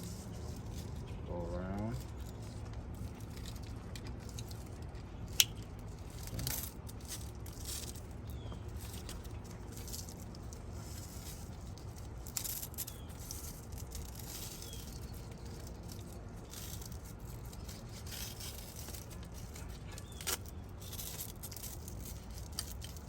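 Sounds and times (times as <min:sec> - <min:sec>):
steady low rumble: 0:00.0 - 0:23.0
velcro strap rustling and rasping: 0:00.0 - 0:23.0.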